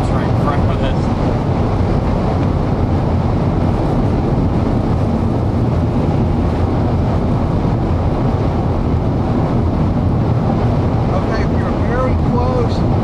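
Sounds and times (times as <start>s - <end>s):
car driving noise: 0.0s - 13.0s
strong wind roar: 0.0s - 13.0s.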